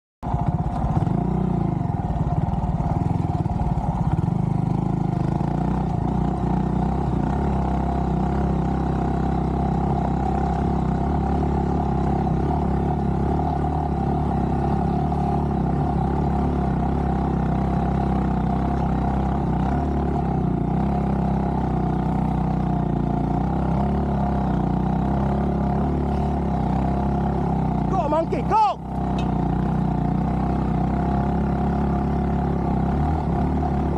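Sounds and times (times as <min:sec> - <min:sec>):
motorcycle engine running: 0:00.2 - 0:33.9.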